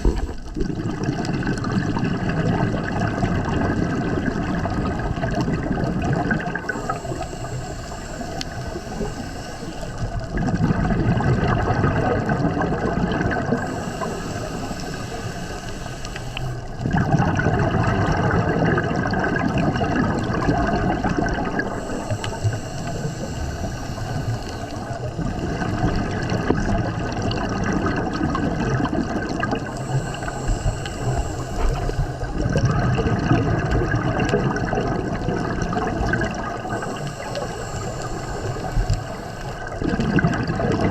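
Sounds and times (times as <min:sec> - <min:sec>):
scuba regulator breathing: 0:00.0 - 0:00.8, 0:03.4 - 0:10.9, 0:12.4 - 0:17.3, 0:19.7 - 0:40.9
bubbling exhale: 0:00.0 - 0:40.9.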